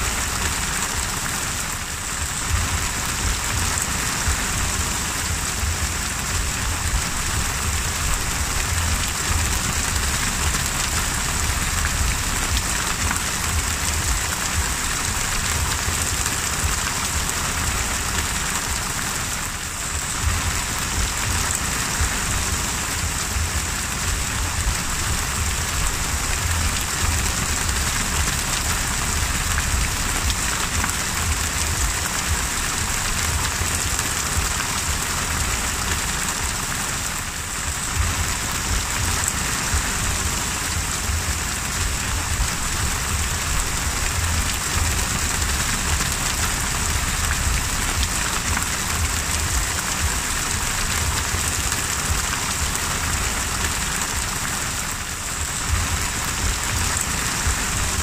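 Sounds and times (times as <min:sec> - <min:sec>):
low rumble: 0:00.0 - 0:36.6, 0:37.2 - 0:54.5
heavy rain on sea surface: 0:00.0 - 0:58.0.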